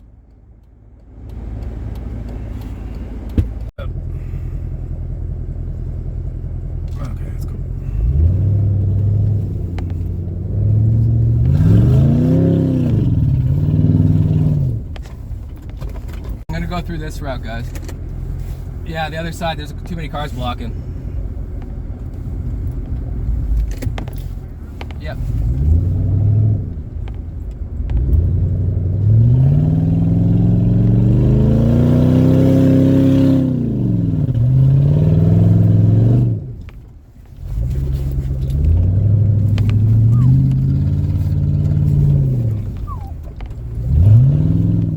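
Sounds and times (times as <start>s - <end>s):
car engine revving: 1.1s - 44.9s.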